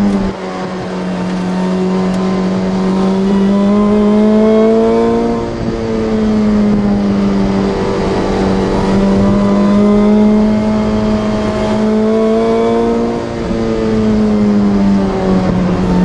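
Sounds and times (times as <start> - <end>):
car engine under throttle: 0.0 - 16.0.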